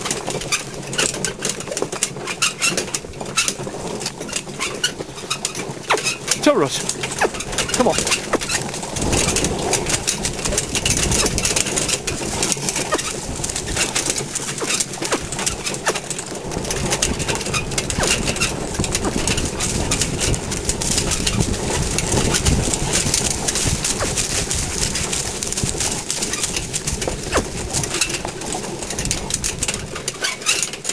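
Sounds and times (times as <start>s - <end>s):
carriage wheels rattling: 0.0s - 30.9s.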